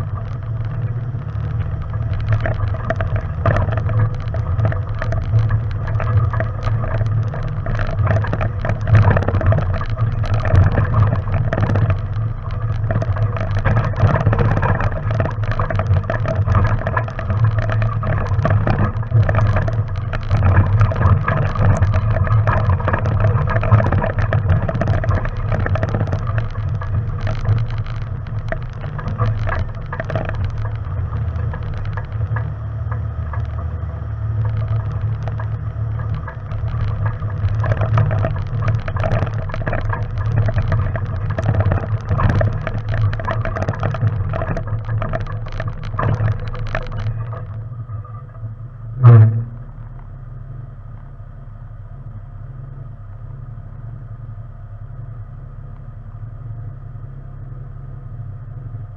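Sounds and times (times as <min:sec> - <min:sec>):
stones crunching under tyres: 0:00.0 - 0:47.7
vehicle engine: 0:00.0 - 0:58.9.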